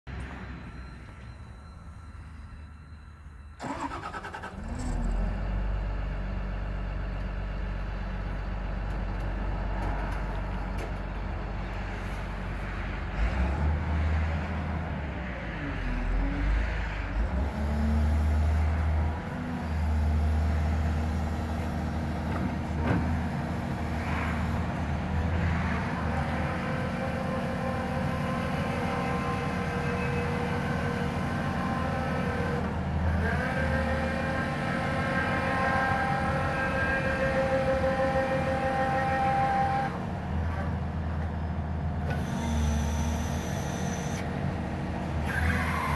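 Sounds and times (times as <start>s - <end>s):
diesel engine cranking and running: 3.3s - 13.8s, 15.1s - 45.9s.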